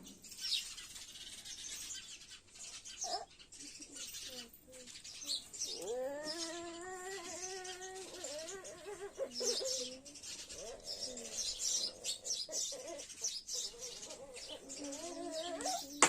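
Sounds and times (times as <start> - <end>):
birds chirping: 0.0 - 16.0
lower wavering bird calls: 0.0 - 16.0.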